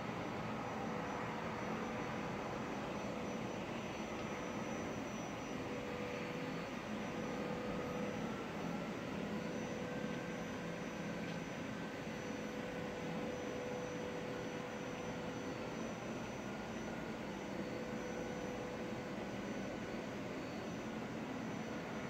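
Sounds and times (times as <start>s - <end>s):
faint constant hum: 0.0s - 22.0s.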